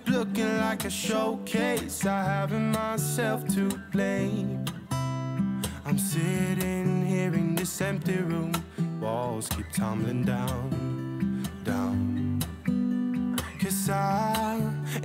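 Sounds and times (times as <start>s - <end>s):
person singing: 0.0s - 4.9s, 5.6s - 12.6s, 13.4s - 15.0s
strummed acoustic guitar: 0.0s - 15.0s.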